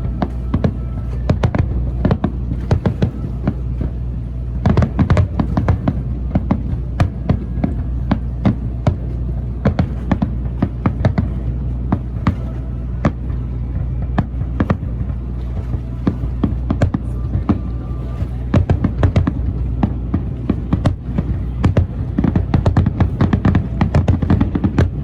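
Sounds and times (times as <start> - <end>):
steady low hum: 0.0 - 25.0
fireworks bangs: 4.6 - 25.0.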